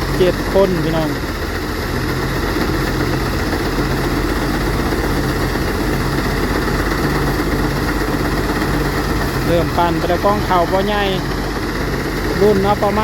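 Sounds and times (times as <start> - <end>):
engine drone: 0.0 - 13.0
threshing machine noise: 0.0 - 13.0.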